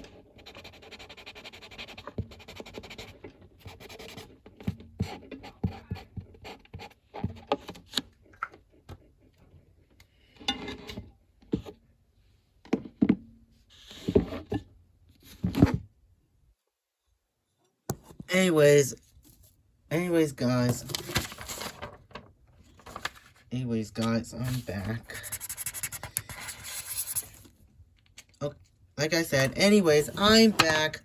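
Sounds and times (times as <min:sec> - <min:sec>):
coloring supplies and paper handled: 0:00.0 - 0:12.0, 0:17.6 - 0:31.0.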